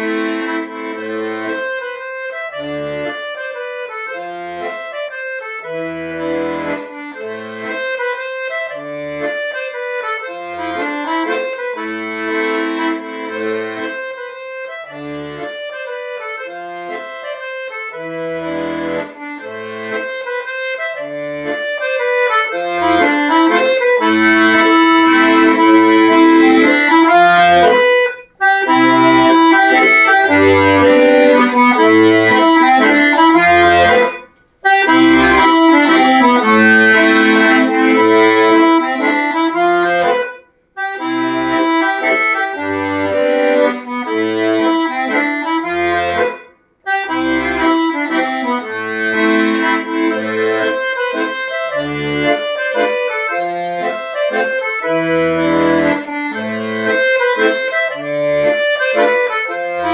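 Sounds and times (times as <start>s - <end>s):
button accordions playing: 0.0s - 59.9s.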